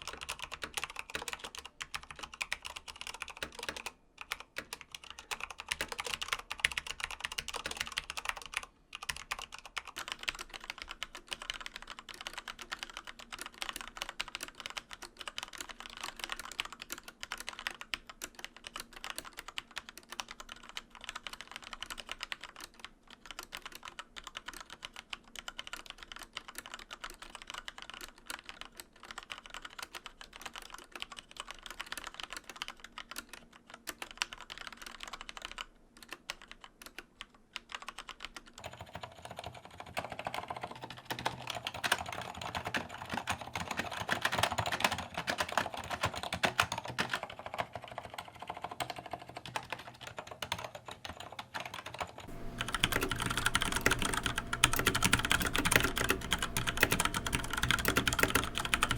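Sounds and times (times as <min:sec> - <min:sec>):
fast mechanical keyboard typing: 0:00.0 - 0:58.9.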